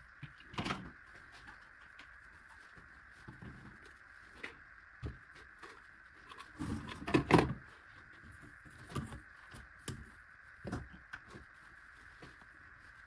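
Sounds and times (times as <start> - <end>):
plastic hose rustling and knocking: 0.2 - 12.5.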